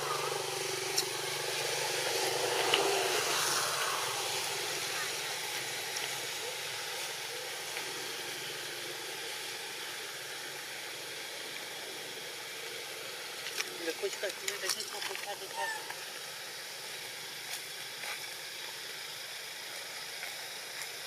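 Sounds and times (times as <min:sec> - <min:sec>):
hissing outdoor background noise: 0:00.0 - 0:21.0.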